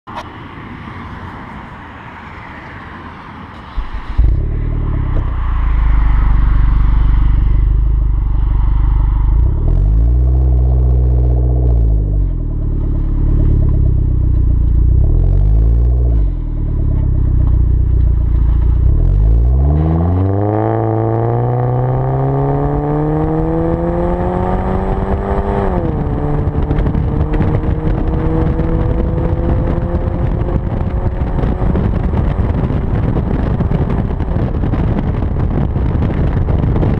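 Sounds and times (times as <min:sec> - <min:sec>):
car engine idling and revving: 0:01.0 - 0:36.9.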